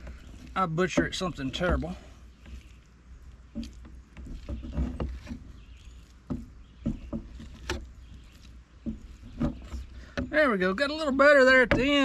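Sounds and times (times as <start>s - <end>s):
knife scraping on wooden board: 0.0s - 10.3s.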